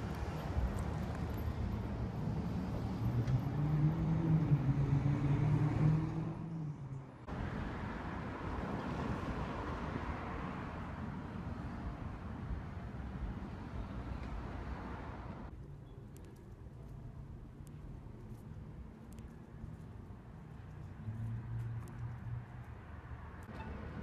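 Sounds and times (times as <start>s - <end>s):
outdoor traffic noise: 0.0s - 24.0s.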